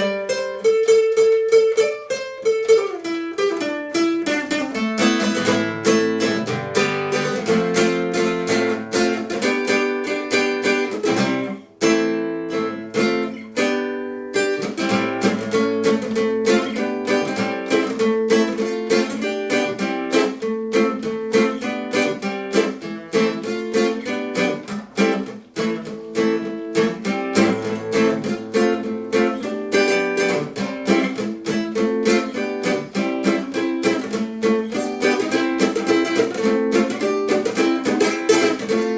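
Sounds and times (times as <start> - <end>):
plucked string instrument strumming: 0.0 - 38.9.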